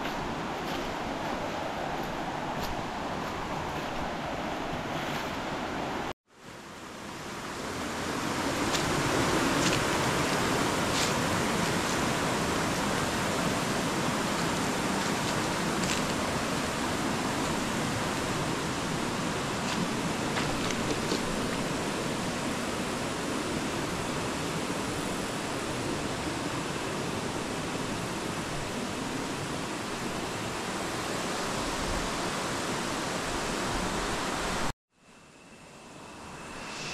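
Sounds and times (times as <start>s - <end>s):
river water rushing over rocks: 0.0s - 34.7s.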